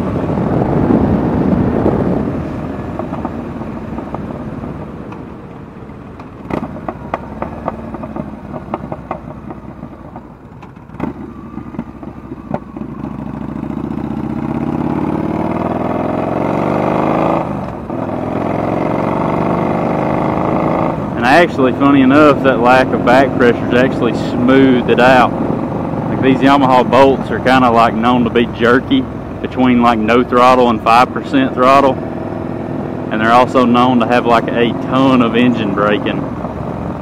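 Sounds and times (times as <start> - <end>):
exhaust popping: 0.0 - 37.0
motorcycle engine revving: 0.0 - 37.0.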